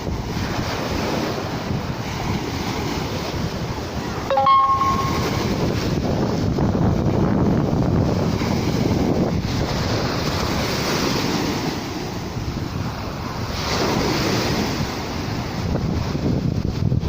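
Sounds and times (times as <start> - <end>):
wind buffeting microphone: 0.0 - 4.3, 5.0 - 17.0
sea waves breaking: 0.0 - 17.0.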